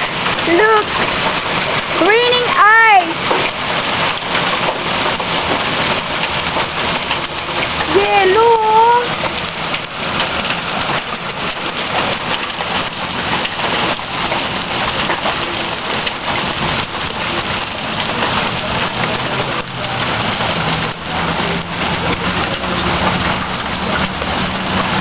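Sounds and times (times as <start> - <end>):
hail pellets clicking on hard surfaces: 0.0 - 25.0
heavy rain: 0.0 - 25.0.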